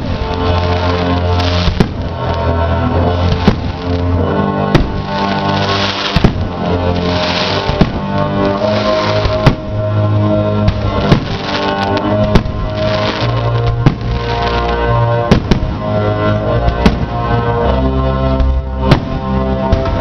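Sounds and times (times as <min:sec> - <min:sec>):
fireworks bangs: 0:00.0 - 0:17.5, 0:18.4 - 0:20.0
loud music with low notes: 0:00.0 - 0:20.0.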